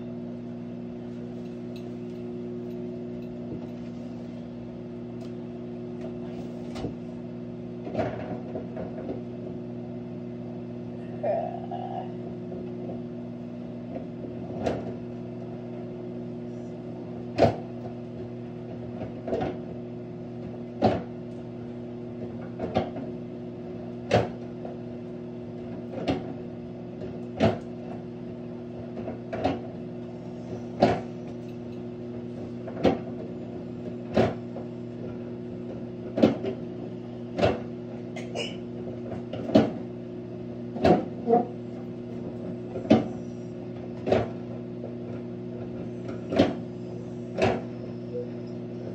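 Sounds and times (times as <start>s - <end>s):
microwave oven humming: 0.0s - 48.9s.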